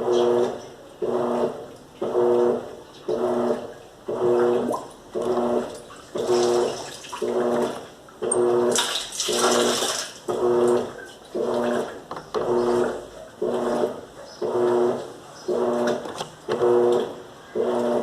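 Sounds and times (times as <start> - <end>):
washing machine motor hum: 0.0 - 18.0
water sloshing: 3.0 - 18.0.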